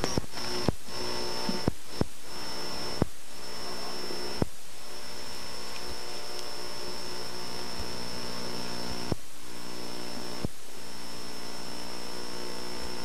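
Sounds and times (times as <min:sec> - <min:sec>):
electrical hum: 0:00.0 - 0:13.0
tape hiss: 0:00.0 - 0:13.0.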